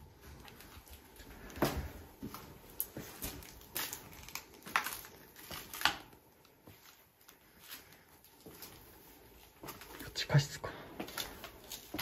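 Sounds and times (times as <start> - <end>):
footsteps crunching on floor: 0.0 - 5.8, 6.6 - 10.2, 10.9 - 12.0.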